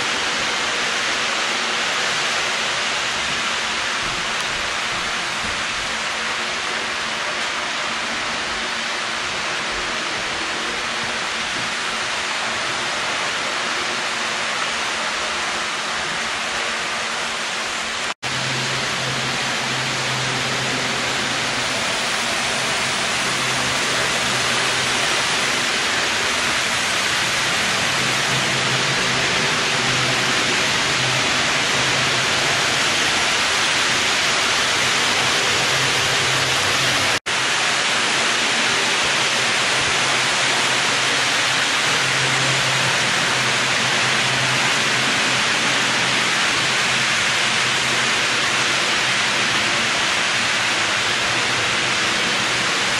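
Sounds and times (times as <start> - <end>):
model trains running: 0.0 - 52.9.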